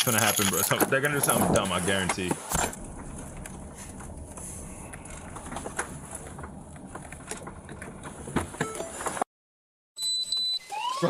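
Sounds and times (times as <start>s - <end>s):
car engine and road rumble: 0.3s - 9.2s.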